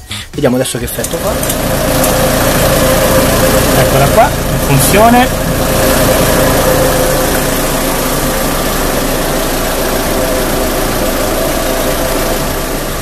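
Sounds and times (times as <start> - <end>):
car engine idling: 0.0 - 13.0
steady whine: 0.0 - 13.0.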